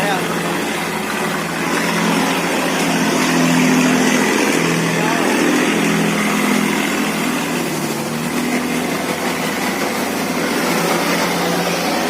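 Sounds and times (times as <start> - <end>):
boat engines droning: 0.0 - 12.0
wash of noise: 0.0 - 12.0.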